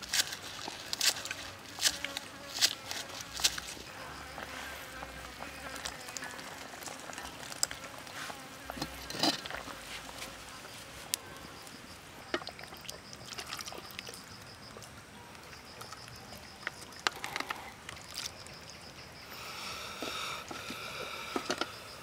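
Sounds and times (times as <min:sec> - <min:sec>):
rustle and splash: 0:00.0 - 0:18.9.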